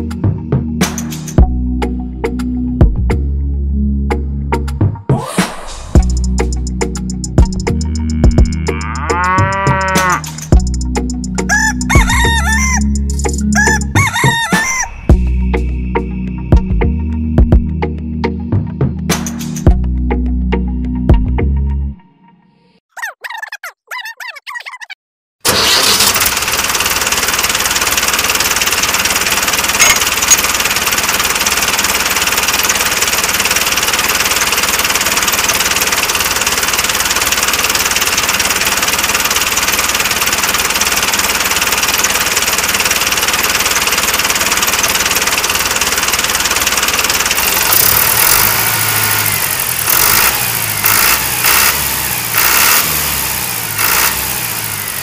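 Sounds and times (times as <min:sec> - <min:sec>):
tractor engine running: 0:06.0 - 0:21.0, 0:25.5 - 0:55.0.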